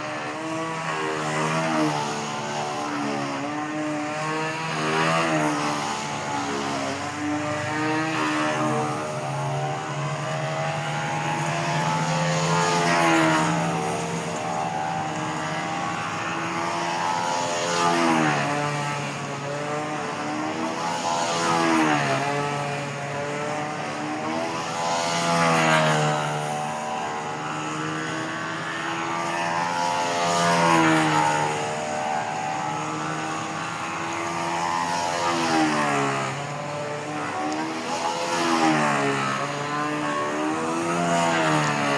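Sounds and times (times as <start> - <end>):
model plane engine at high speed: 0.0 - 41.9.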